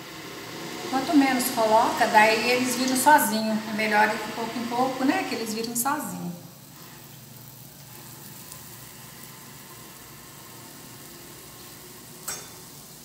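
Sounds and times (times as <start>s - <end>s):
batter deep-frying in oil: 0.0s - 13.0s.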